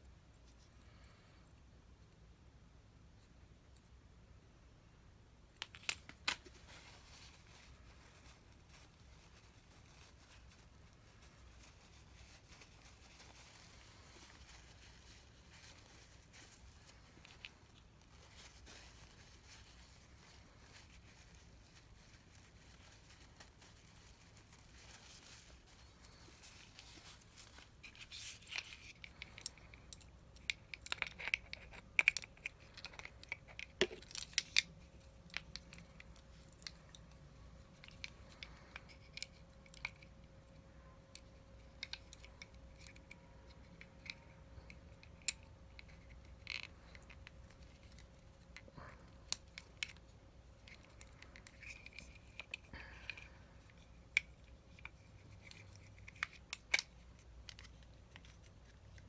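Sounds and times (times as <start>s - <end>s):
small clicks and scratchy rustles: 0.0s - 2.3s, 5.4s - 59.0s
faint steady hum: 0.0s - 59.0s.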